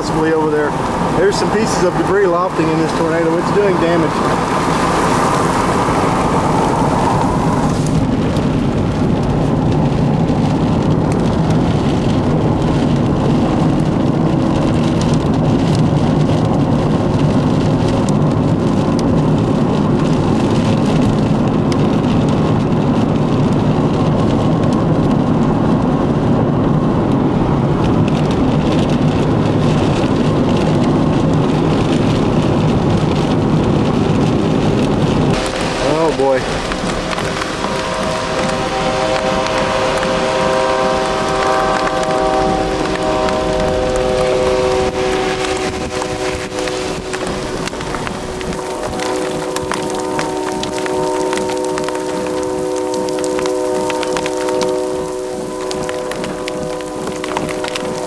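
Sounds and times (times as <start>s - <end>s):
heavy rain on car roof: 0.0s - 58.0s
road noise: 0.0s - 58.0s.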